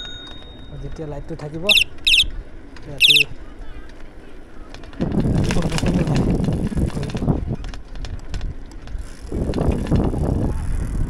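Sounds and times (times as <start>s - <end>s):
bicycle rattling over rough asphalt: 0.0s - 11.0s.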